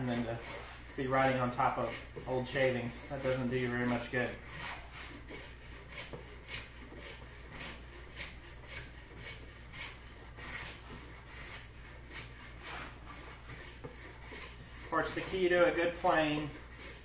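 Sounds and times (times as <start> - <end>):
hand plane shaving wood: 0.0 - 17.0.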